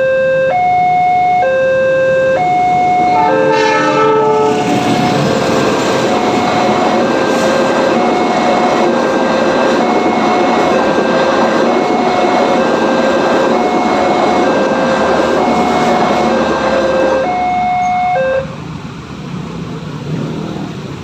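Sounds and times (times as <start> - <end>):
two-tone crossing alarm: 0.0 - 18.6
train rolling past: 2.3 - 21.0.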